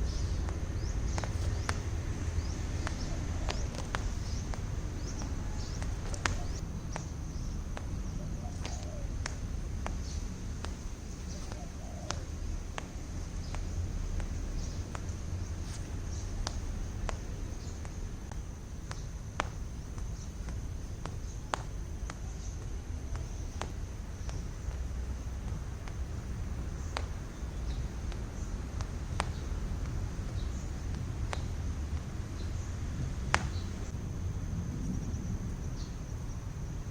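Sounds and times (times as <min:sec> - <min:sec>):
rope striking the ground: 0:00.0 - 0:34.0
small birds chirping: 0:00.0 - 0:34.0
steady low rumble: 0:00.0 - 0:36.9.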